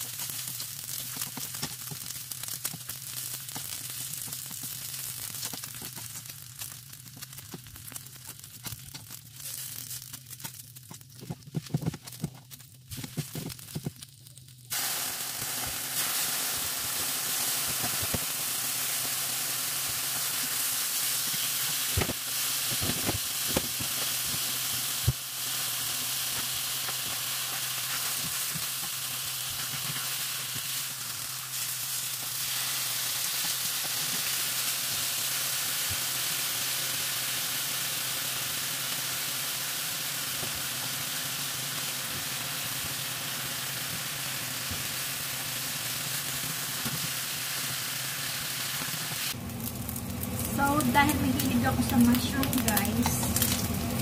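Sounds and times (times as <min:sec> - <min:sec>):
meat sizzling in frying pan: 0:00.0 - 0:54.0.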